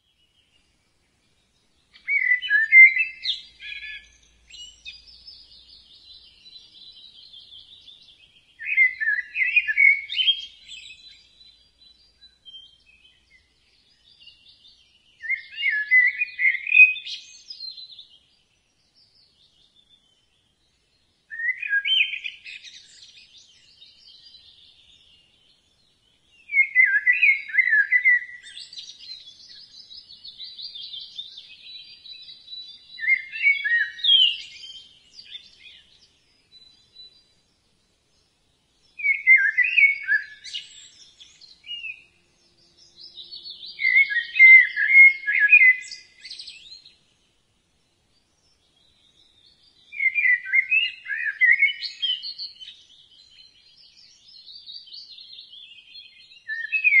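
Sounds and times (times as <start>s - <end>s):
bird singing loud phrases: 0.0s - 57.0s.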